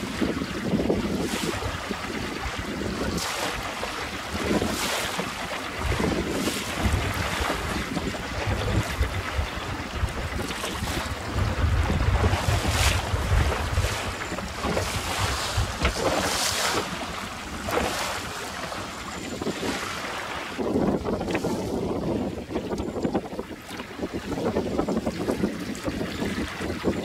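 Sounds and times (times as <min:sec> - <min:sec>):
boat wake: 0:00.0 - 0:27.0
choppy sea rushing: 0:00.0 - 0:27.0
outboard motor running: 0:00.0 - 0:27.0
wind buffeting microphone: 0:00.0 - 0:27.0.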